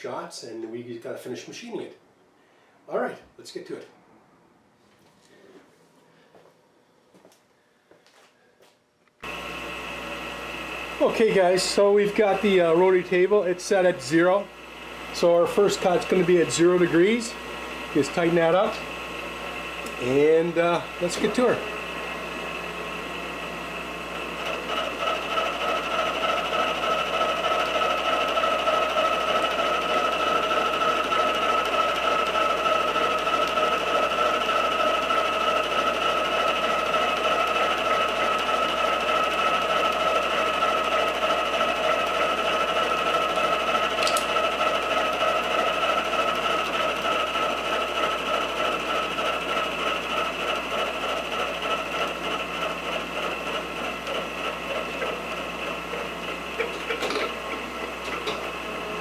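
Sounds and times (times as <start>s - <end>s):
milling cutter whining on steel: 9.2s - 59.0s.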